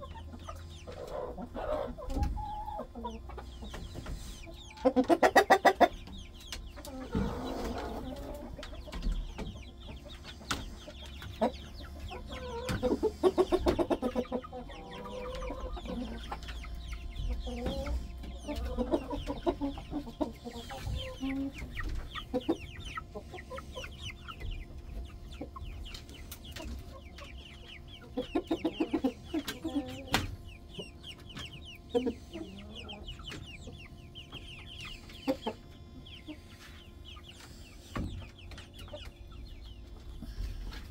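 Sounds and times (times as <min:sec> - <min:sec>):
chickens clucking: 0:00.0 - 0:40.9
high chicken chirps: 0:00.0 - 0:40.9.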